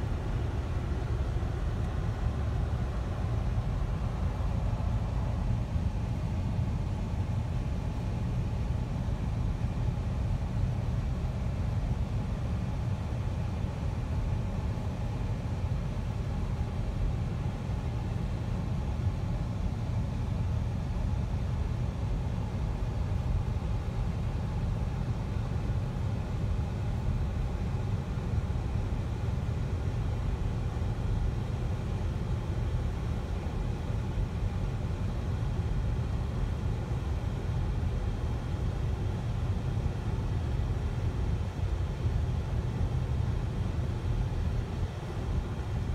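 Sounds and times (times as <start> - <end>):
truck engine and road noise: 0.0 - 25.0, 25.6 - 45.9.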